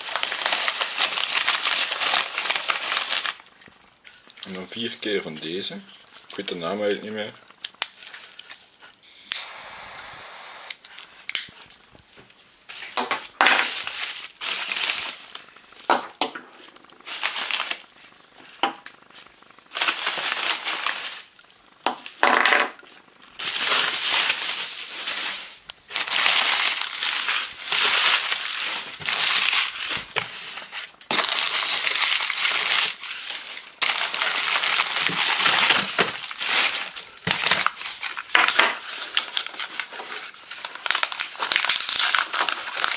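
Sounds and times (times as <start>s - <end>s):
bubble wrap and paper crinkling: 0.0s - 9.2s, 10.7s - 22.2s, 22.8s - 42.9s.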